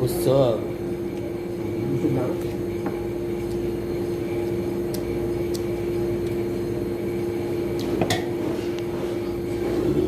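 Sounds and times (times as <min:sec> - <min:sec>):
machine hum with pitched tone: 0:00.0 - 0:10.0.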